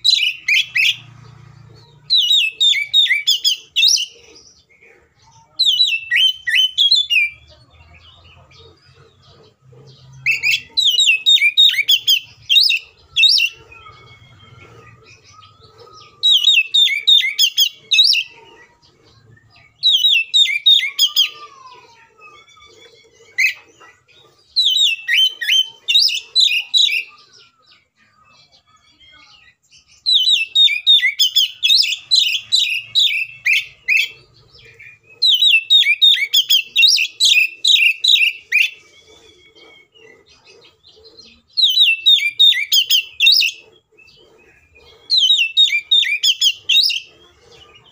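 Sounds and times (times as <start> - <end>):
magpie-robin singing: 0.0 - 47.9.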